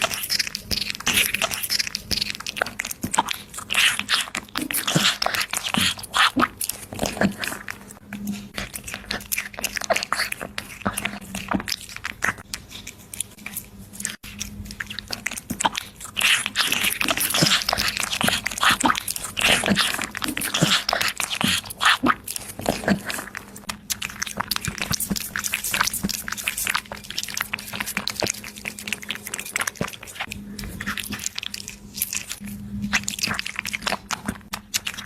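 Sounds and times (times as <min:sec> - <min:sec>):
small pet crunchy chewing: 0:00.0 - 0:35.0.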